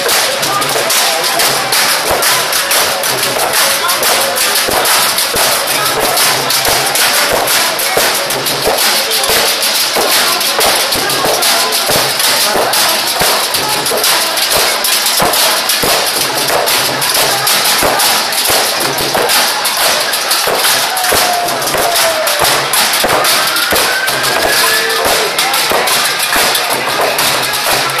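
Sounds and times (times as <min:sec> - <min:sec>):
crowd voices: 0:00.0 - 0:28.0
percussion band drums and cymbals: 0:00.0 - 0:28.0.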